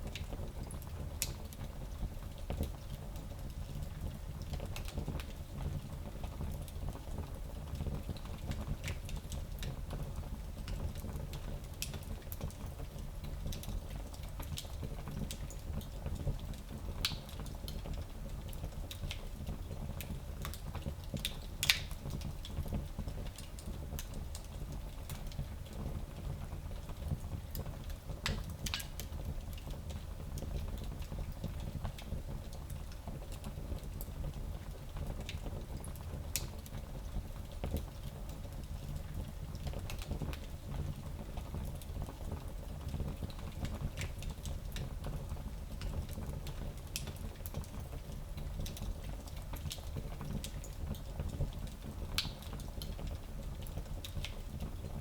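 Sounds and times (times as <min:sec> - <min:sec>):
wood fire crackling: 0:10.7 - 0:55.0.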